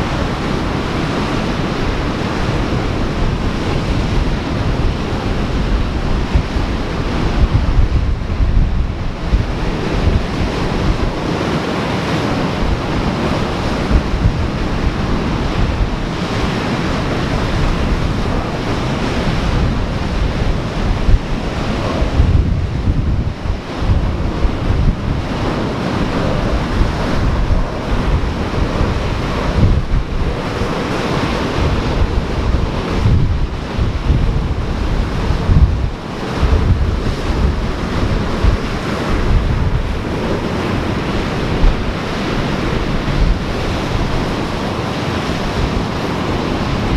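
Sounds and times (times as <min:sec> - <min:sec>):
ocean surf washing in: 0:00.0 - 0:46.9
wind buffeting microphone: 0:00.0 - 0:46.9.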